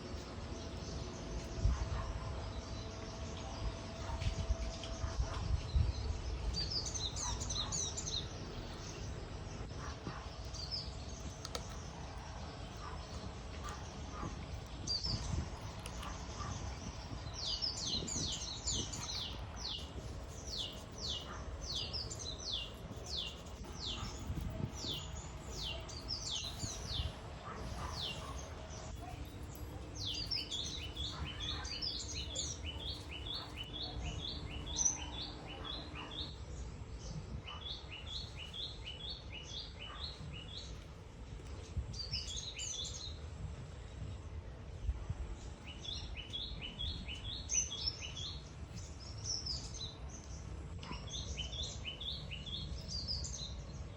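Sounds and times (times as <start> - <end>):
low rumble of background noise: 0.0 - 53.9
small birds chirping: 0.0 - 53.9.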